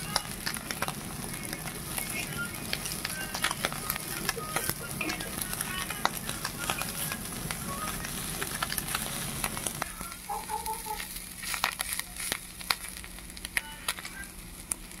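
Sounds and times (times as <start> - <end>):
fish frying in oil: 0.0 - 15.0
spitting oil pops and crackles: 0.0 - 15.0.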